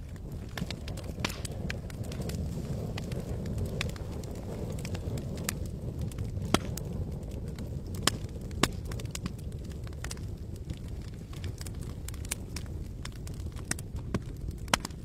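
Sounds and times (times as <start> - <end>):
campfire rushing: 0.0 - 15.0
fire crackles and pops: 0.0 - 15.0.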